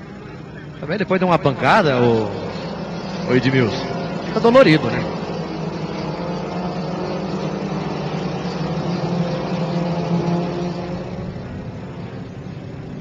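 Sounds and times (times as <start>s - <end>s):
racing motorcycle engines droning: 0.0s - 13.0s.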